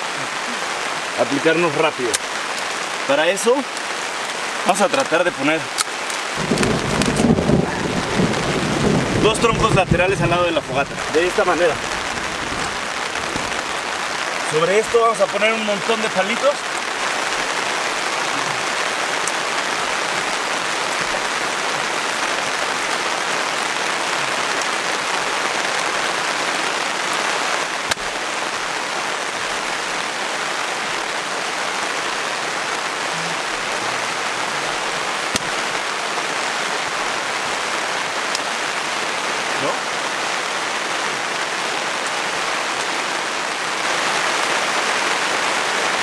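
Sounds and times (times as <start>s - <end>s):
heavy rain hissing: 0.0s - 46.0s.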